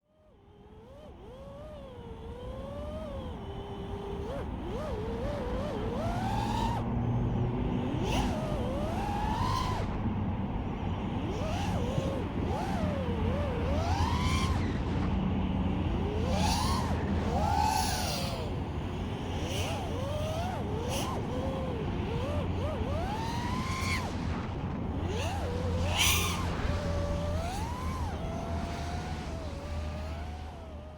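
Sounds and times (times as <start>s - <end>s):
drone motors whining: 0.1s - 30.9s
road traffic rumble: 3.2s - 30.9s.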